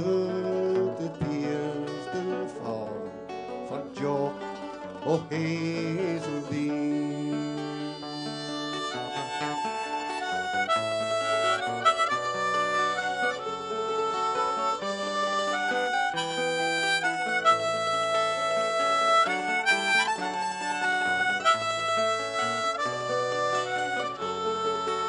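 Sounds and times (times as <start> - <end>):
harmonica playing folk tune: 0.0 - 25.0
plucked string instrument: 0.0 - 25.0
strummed acoustic guitar: 0.0 - 25.0.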